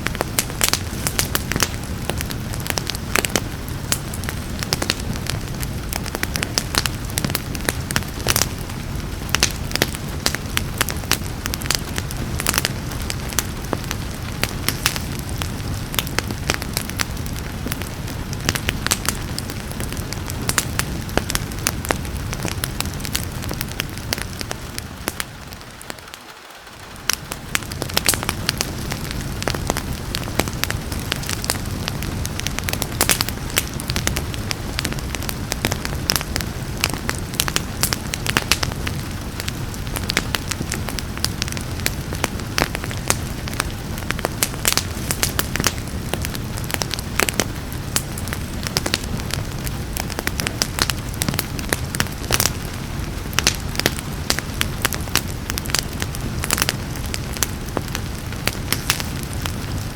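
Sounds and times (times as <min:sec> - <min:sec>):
rain hissing: 0:00.0 - 0:59.9
wood fire crackling: 0:00.0 - 0:59.9.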